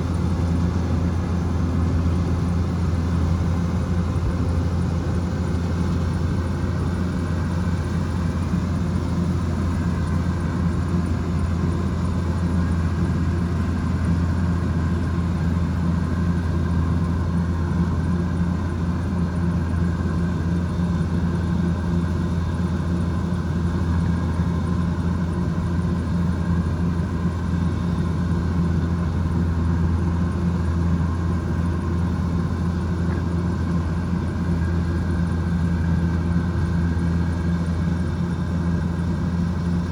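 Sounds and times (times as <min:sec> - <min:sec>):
harvesting machinery clatter and whir: 0:00.0 - 0:39.9.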